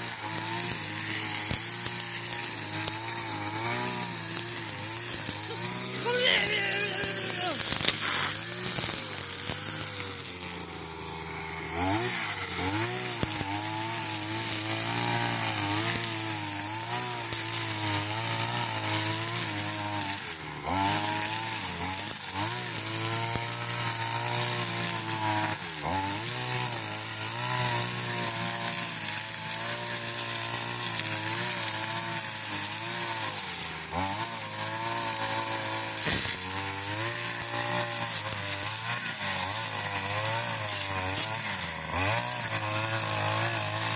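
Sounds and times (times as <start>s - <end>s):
string trimmer cutting grass: 0.0s - 43.9s.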